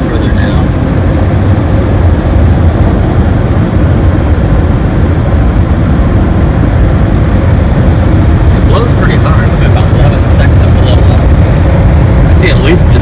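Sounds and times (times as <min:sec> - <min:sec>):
car wash dryer blowers blasting air: 0:00.0 - 0:13.0.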